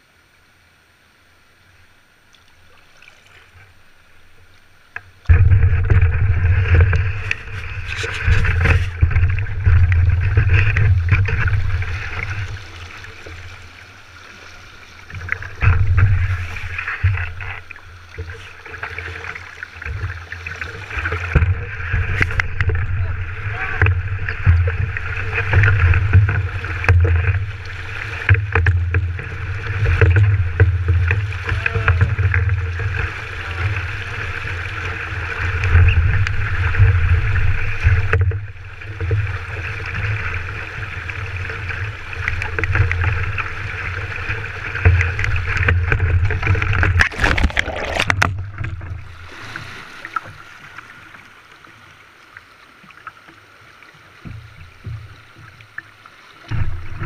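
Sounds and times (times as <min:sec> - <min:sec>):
splashing and clatter: 0:02.6 - 0:51.4, 0:54.2 - 0:57.0
paddle knocking on hull: 0:05.2 - 0:13.7, 0:14.9 - 0:51.1, 0:54.2 - 0:55.8, 0:56.4 - 0:57.0.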